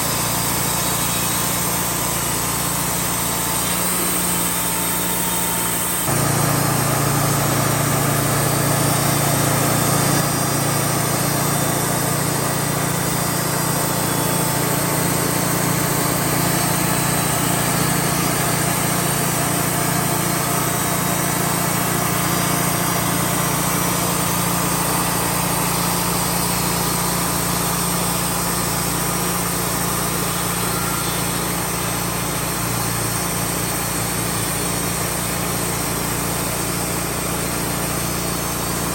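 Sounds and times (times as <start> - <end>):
band sawmill engine running: 0.0 - 38.9.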